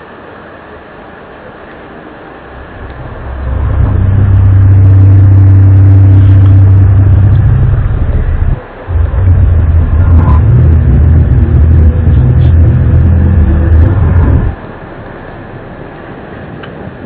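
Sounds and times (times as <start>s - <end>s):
low droning rumble: 1.9s - 17.0s.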